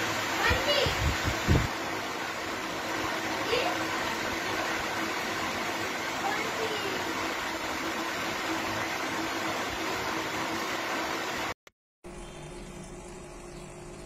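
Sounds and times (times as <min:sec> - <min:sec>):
aquarium aerator hum: 0:00.0 - 0:14.0.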